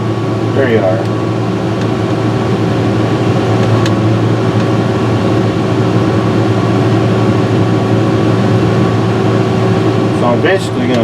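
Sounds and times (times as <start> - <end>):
diesel engine hum from inside cab: 0.0 - 11.0.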